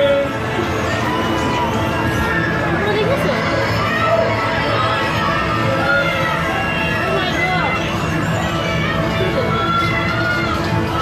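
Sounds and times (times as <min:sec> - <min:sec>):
voices: 0:00.0 - 0:11.0.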